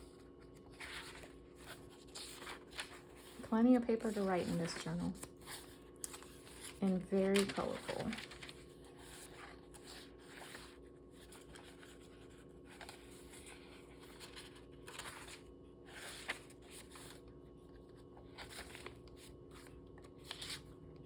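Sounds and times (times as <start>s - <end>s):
paper pages rustling: 0.0s - 20.8s
low steady hum: 0.0s - 21.0s.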